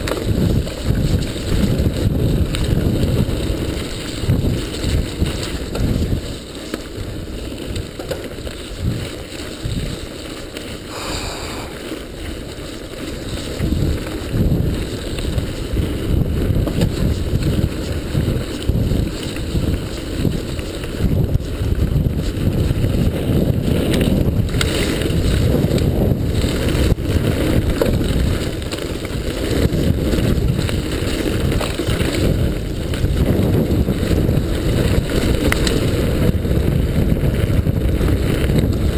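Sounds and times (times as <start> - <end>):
wind buffeting microphone: 0.0 - 6.4, 10.8 - 38.9
bike knocks and rattles: 0.0 - 10.7, 12.2 - 38.9
bike tyres rumbling over gravel: 0.0 - 38.9.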